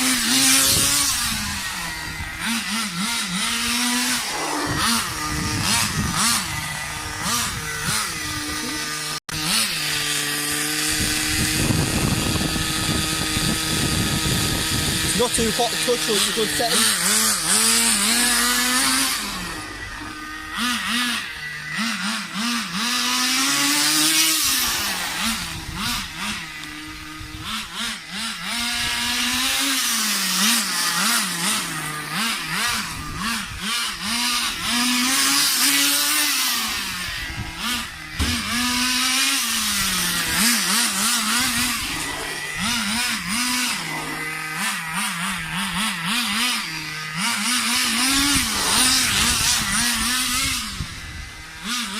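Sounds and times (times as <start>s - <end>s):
rc car nitro engine revving: 0.0s - 51.9s.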